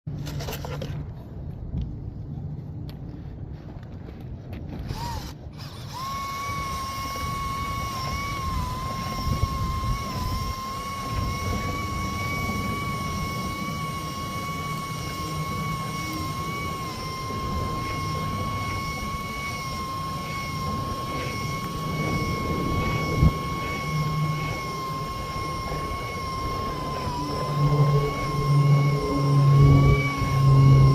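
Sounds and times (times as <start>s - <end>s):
wind buffeting microphone: 1.1s - 30.9s
small motor whining: 4.8s - 30.9s.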